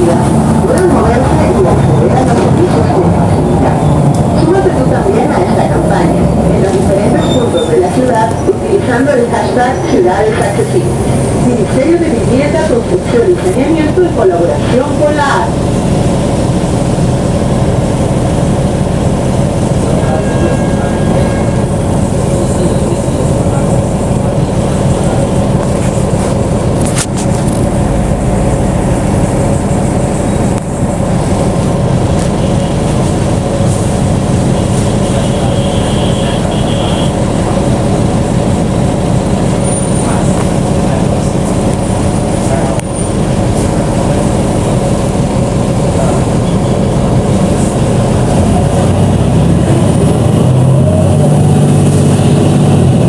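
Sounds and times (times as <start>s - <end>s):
bus engine humming: 0.0s - 53.0s.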